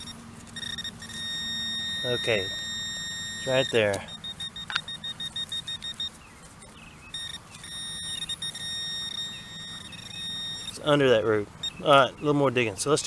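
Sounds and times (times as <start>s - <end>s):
steady electronic tone: 0.0s - 12.3s
rapid electronic beeping: 0.0s - 13.0s.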